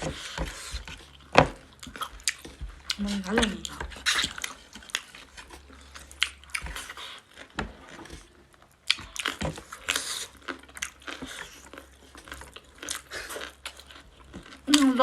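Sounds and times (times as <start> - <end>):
chewing food with clicks: 0.0 - 15.0.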